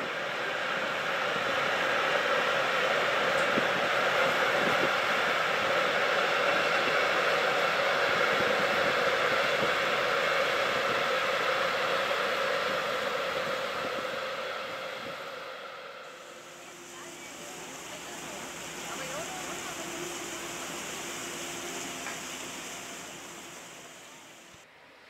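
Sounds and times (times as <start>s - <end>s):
moving train running: 0.0s - 24.7s.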